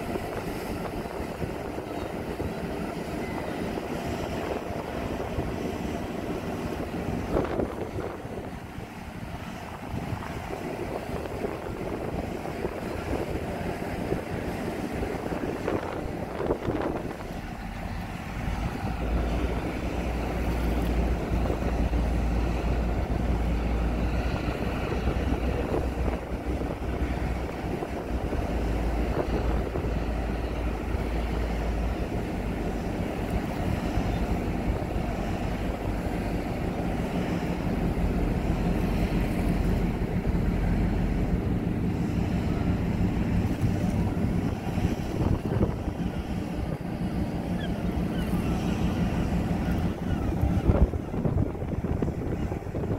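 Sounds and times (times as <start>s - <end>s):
boat engine humming: 0.0s - 52.9s
wind buffeting microphone: 0.0s - 52.9s.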